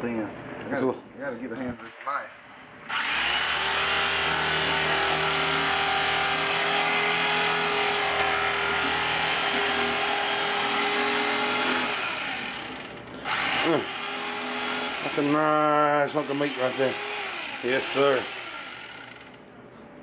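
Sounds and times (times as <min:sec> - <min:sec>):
electric carving knife buzzing: 0:02.9 - 0:19.5.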